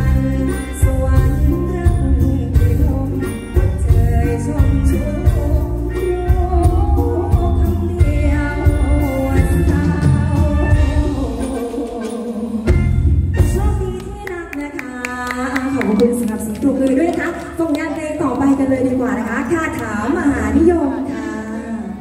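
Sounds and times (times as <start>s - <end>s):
woman singing into microphone: 0.0s - 18.0s
live band playing: 0.0s - 22.0s.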